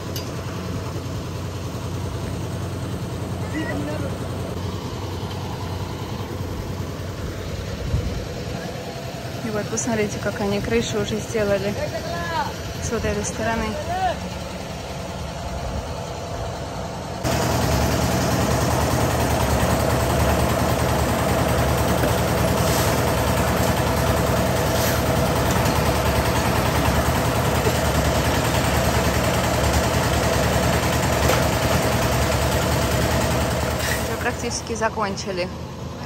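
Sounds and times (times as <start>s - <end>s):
concrete mixer engine drone: 0.0s - 36.0s.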